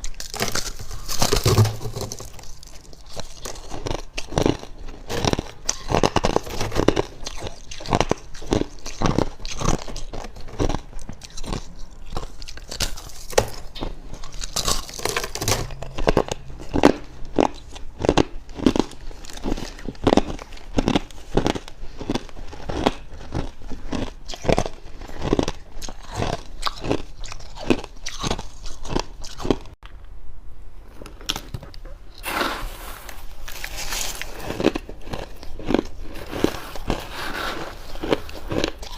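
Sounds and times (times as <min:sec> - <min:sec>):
chewing freezer frost: 0:00.0 - 0:29.8, 0:33.1 - 0:38.9.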